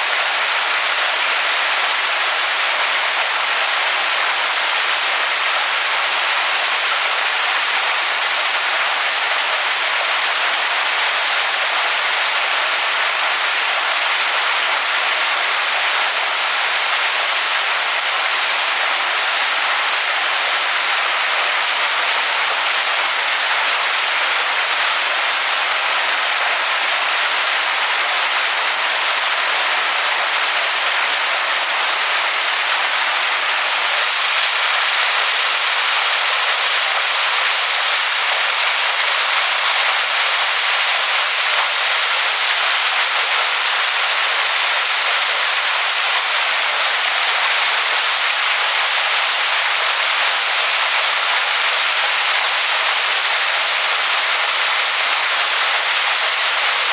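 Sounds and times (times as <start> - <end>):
waterfall pouring onto rocks: 0.0 - 56.9.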